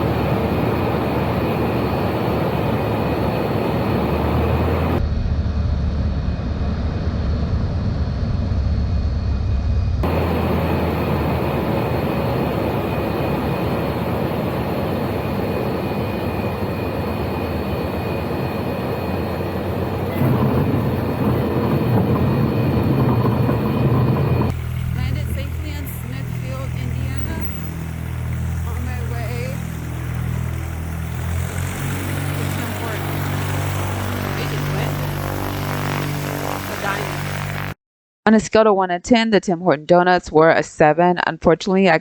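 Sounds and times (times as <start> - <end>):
aircraft engine drone in cabin: 0.0 - 37.8.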